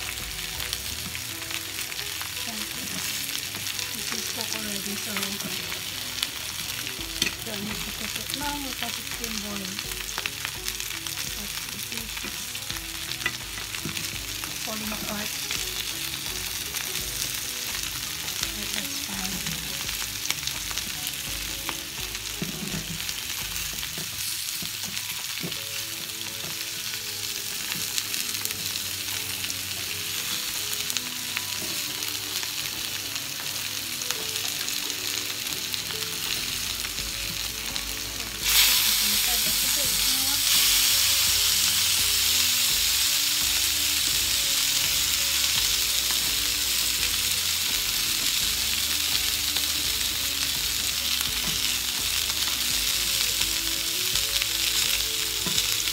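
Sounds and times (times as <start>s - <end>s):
fish and potatoes sizzling in oil: 0.0s - 55.9s.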